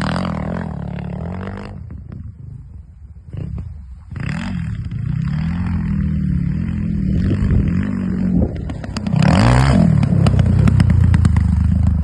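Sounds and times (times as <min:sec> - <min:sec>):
off-road motorcycle engine revving: 0:00.0 - 0:02.2, 0:03.2 - 0:12.0.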